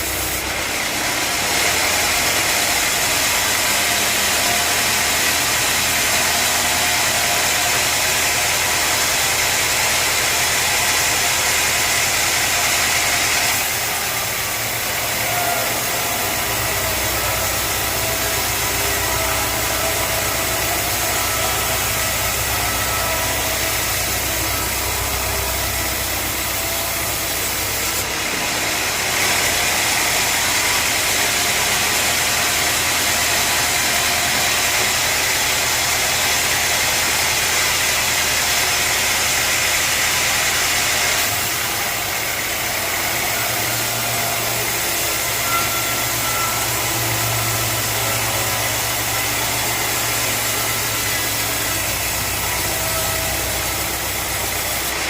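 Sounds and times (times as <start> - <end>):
sawmill engine and saw running: 0.0 - 55.0.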